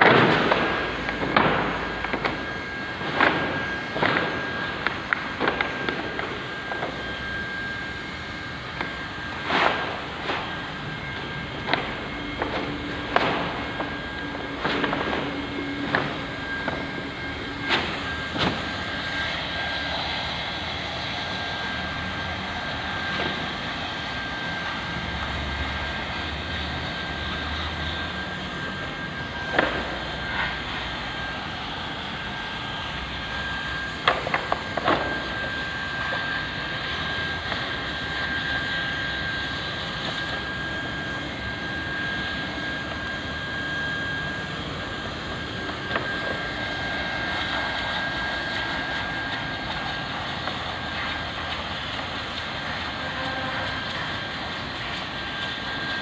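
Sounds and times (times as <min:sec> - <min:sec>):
hot-air welder blower whining: 0:00.0 - 0:56.0.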